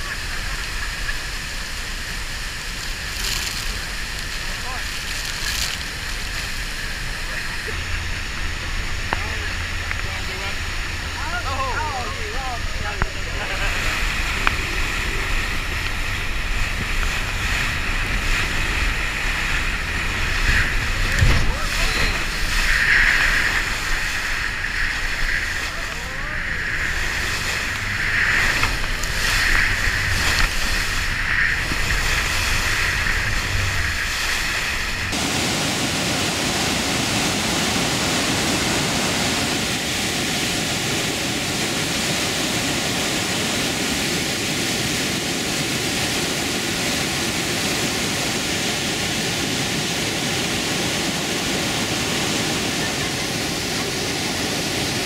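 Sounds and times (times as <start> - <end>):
motorboat engine hum: 0.0 - 55.0
rushing river rapids: 0.0 - 55.0
waterfall rushing: 0.0 - 55.0.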